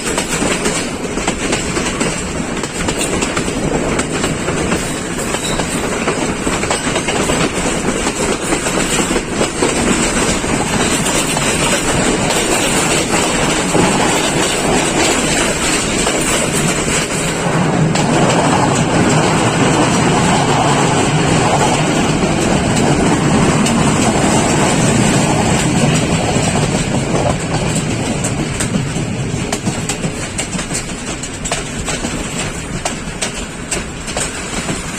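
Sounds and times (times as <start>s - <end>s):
train wheels clattering: 0.0s - 34.9s.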